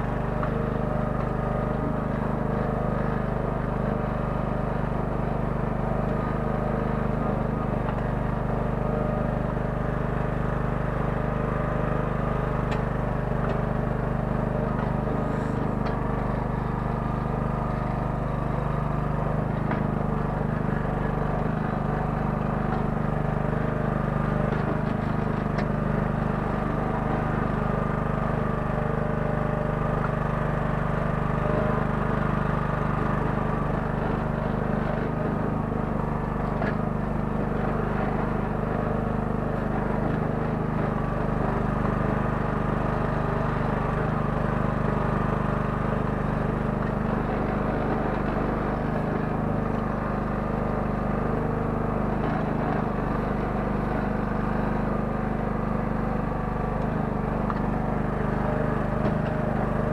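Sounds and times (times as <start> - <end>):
mini excavator engine running: 0.0 - 59.9.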